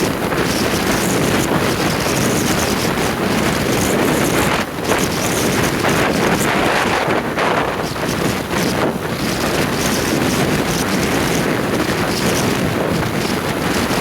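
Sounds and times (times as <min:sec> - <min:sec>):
two-stroke motorcycle engine running: 0:00.0 - 0:14.0
wind buffeting microphone: 0:00.0 - 0:14.0.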